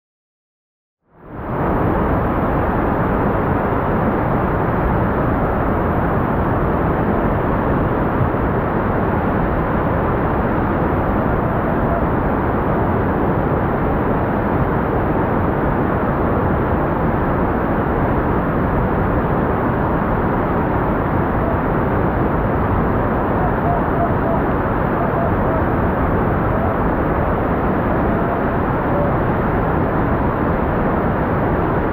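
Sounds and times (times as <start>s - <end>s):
river water rushing over boulders: 1.4s - 31.9s.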